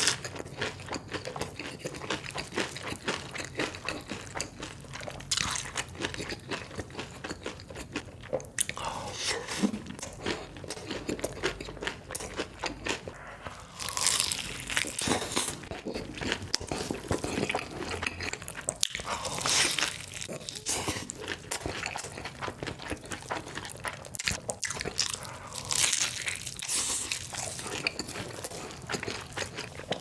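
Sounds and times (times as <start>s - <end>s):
chewing: 0.0s - 30.0s.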